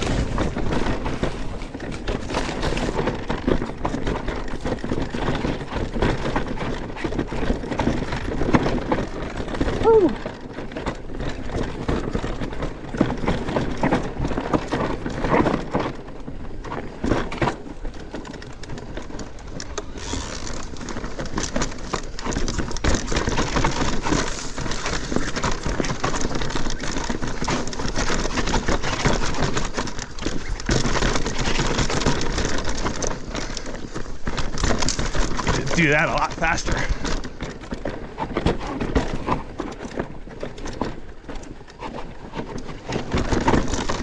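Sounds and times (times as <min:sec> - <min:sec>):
bike knocking and rattling: 0:00.0 - 0:44.0
bike tyres rumbling over dirt: 0:00.0 - 0:44.0.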